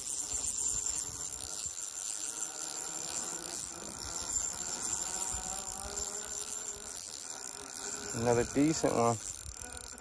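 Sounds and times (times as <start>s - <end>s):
fishing reel whirring: 0.0s - 10.0s.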